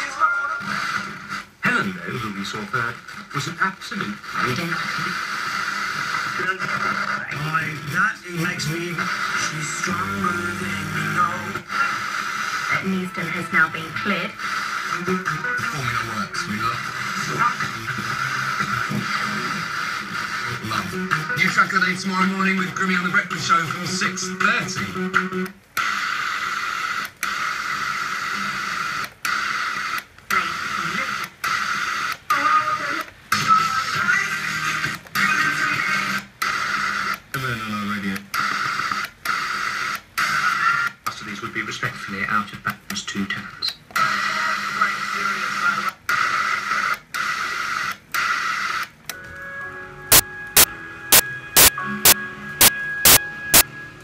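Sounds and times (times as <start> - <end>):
radio static hiss: 0.0 - 49.1, 50.1 - 53.7.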